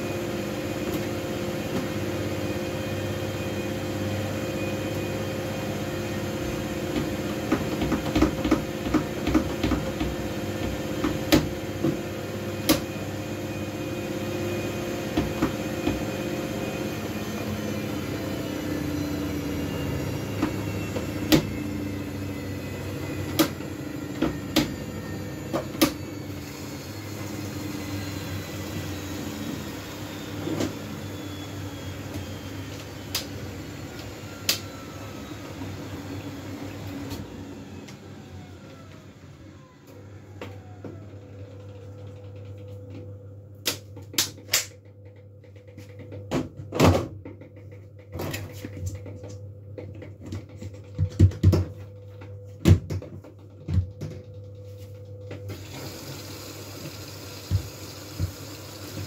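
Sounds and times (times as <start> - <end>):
washing machine spin slowing: 0.0 - 59.0.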